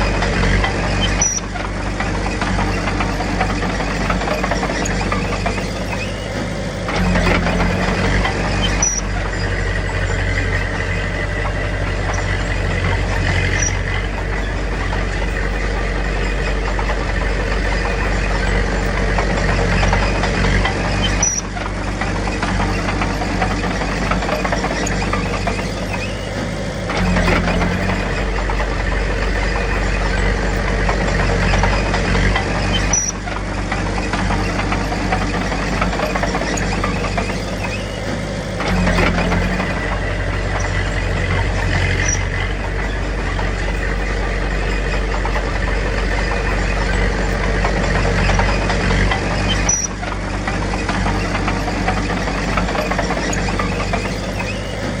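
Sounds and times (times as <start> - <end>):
faint short squeaks: 0.0 - 21.7, 22.3 - 33.4, 34.0 - 55.0
bulldozer diesel engine running: 0.0 - 55.0.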